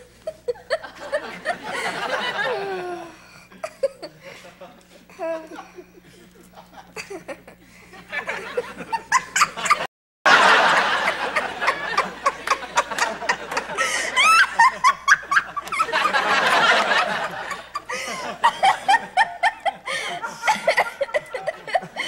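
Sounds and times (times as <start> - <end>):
woman laughing hard: 0.1 - 22.0
audience laughing: 0.2 - 4.9, 5.5 - 22.0.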